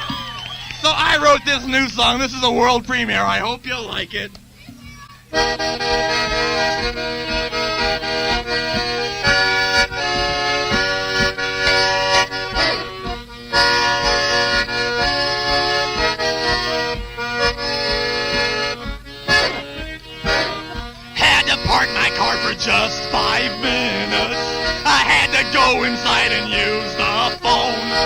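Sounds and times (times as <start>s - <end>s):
accordion playing chords: 0.0s - 28.0s.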